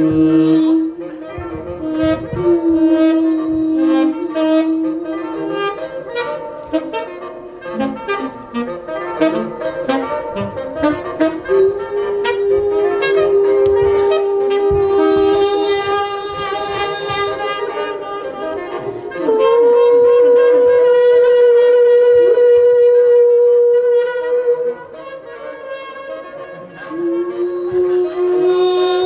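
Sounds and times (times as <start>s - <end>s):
light percussion: 0.0s - 29.0s
saxophone holding long notes: 0.0s - 29.0s.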